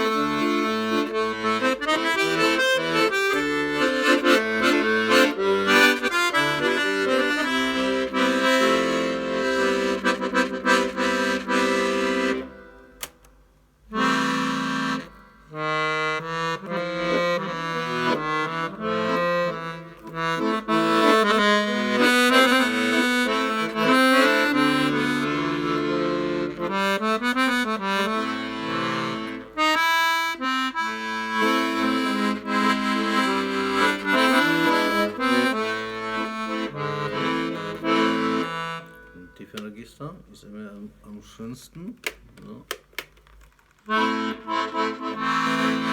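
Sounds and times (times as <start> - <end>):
accordion melody over chords: 0.0 - 39.9, 43.8 - 45.9.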